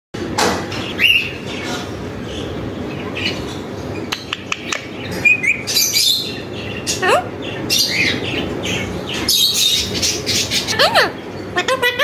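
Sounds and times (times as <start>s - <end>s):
parakeets chirping: 0.7s - 12.0s.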